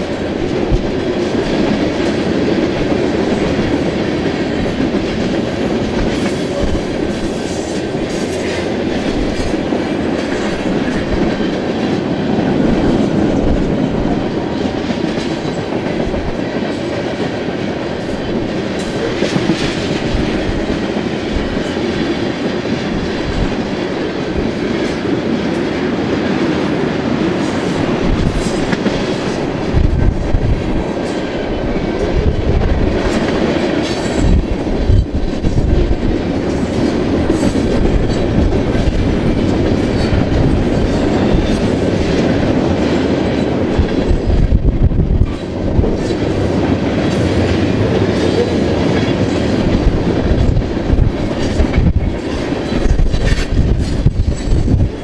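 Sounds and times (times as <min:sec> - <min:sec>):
freight train wheels clacking: 0:00.0 - 0:55.0.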